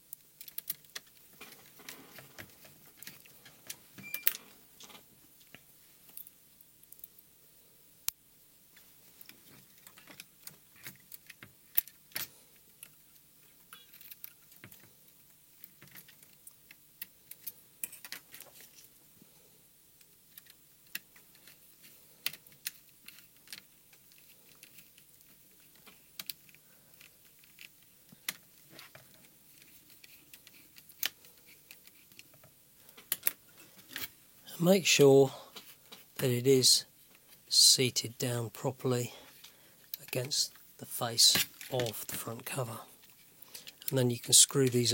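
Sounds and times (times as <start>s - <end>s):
small parts clicking and rattling: 0.0s - 7.2s, 8.0s - 19.0s, 19.9s - 34.2s, 39.2s - 44.0s.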